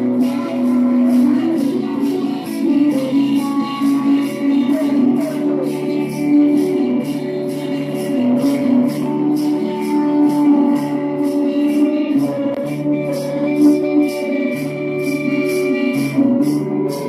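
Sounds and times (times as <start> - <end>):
bass line: 0.0 - 17.0
high percussion beat: 0.0 - 17.0.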